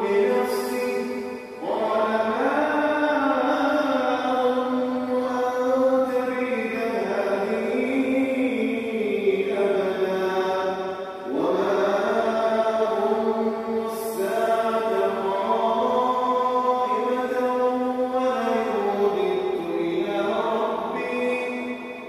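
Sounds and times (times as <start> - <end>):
person chanting: 0.0 - 22.0.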